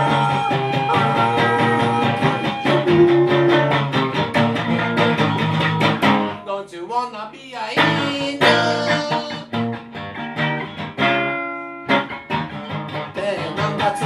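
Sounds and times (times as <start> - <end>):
guitar strummed fast: 0.0 - 6.5, 7.8 - 14.0.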